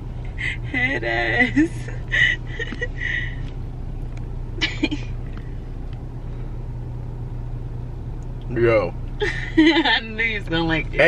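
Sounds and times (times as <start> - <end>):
low car hum: 0.0 - 11.0.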